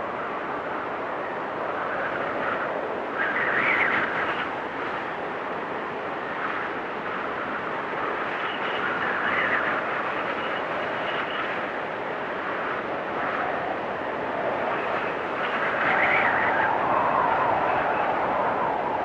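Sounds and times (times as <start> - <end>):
storm wind with faint whistle: 0.0 - 19.0.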